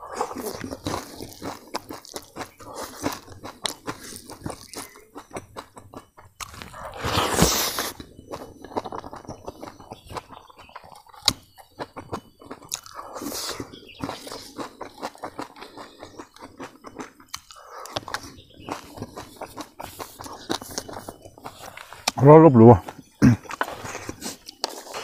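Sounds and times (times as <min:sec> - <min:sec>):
chewing and crunching: 0:00.0 - 0:25.0.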